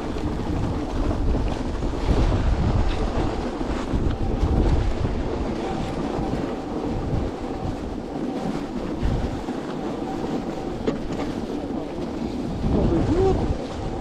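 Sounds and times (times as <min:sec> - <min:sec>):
skateboard wheels rolling on snow: 0:00.0 - 0:14.0
wind buffeting microphone: 0:00.0 - 0:14.0.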